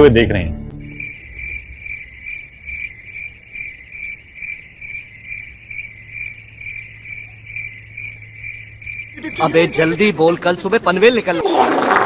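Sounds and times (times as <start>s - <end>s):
crickets chirping: 0.7s - 11.4s.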